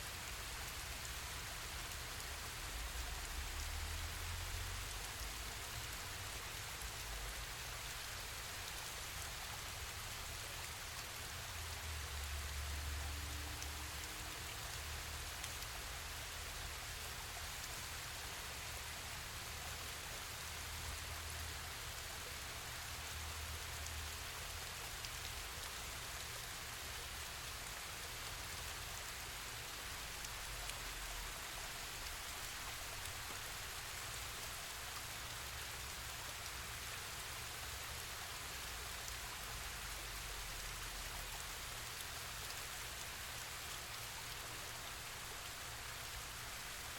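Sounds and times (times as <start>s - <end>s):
hiss of falling water: 0.0s - 46.9s.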